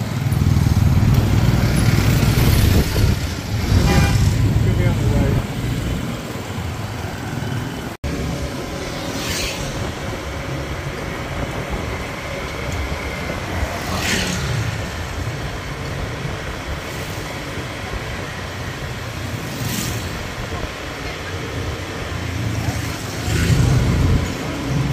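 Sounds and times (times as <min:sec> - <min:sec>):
motorbikes passing: 0:00.0 - 0:24.9
scooter engine and road rumble: 0:00.0 - 0:24.9.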